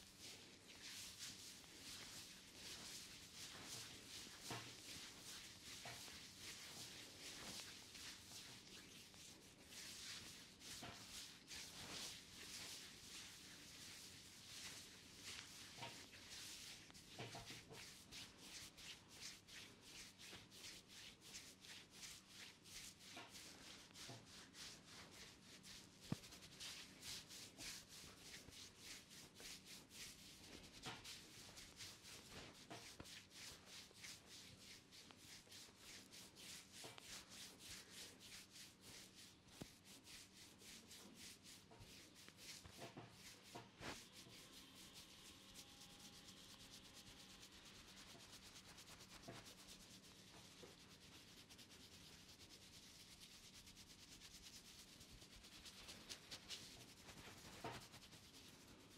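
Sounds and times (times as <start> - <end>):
fingers scrubbing wet hair: 0.0 - 58.9.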